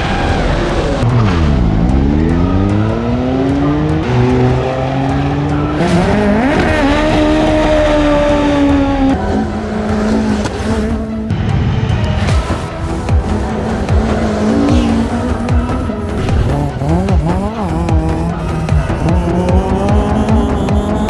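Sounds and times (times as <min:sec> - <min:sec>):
gear changes: 0:00.0 - 0:21.0
race car engine revving: 0:00.0 - 0:21.0.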